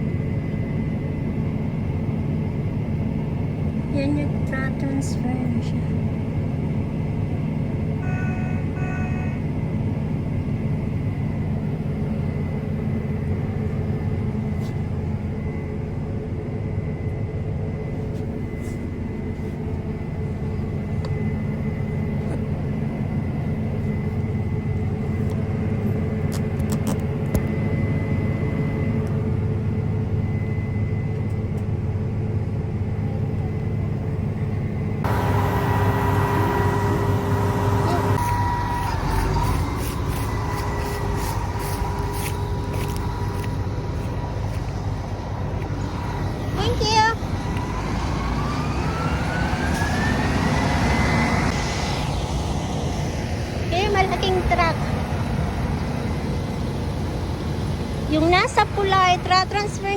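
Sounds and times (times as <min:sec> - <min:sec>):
diesel engine under load: 0:00.0 - 0:59.9
thin steady whine: 0:00.0 - 0:59.9.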